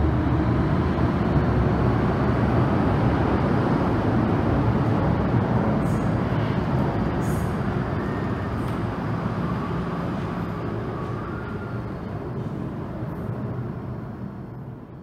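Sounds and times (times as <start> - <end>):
train rumbling through station: 0.0 - 15.0.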